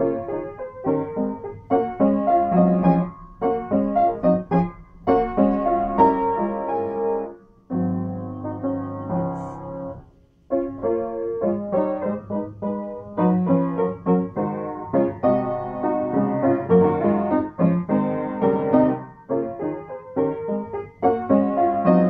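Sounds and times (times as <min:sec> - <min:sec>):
upright piano playing: 0:00.0 - 0:22.0.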